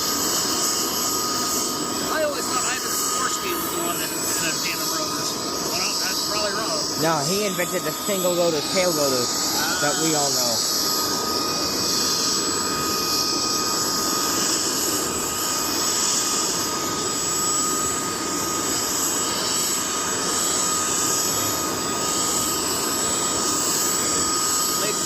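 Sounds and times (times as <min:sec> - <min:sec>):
auxiliary power unit whine: 0:00.0 - 0:25.0
helicopter rotors coasting down: 0:00.0 - 0:25.0.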